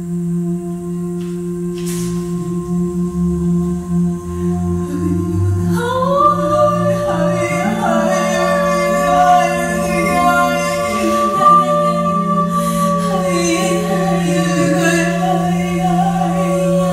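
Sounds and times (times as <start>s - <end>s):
low drone of held voices: 0.0s - 16.9s
high voice sliding into long note: 0.2s - 16.9s
voices sliding and weaving: 1.4s - 16.9s.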